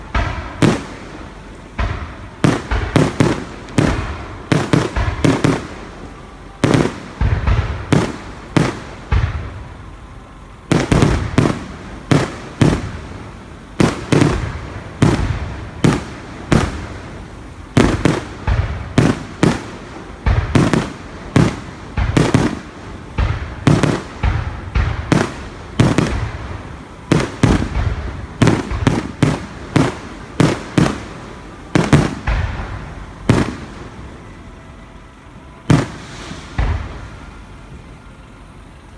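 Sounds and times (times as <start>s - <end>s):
fireworks bangs echoing: 0.0s - 38.9s.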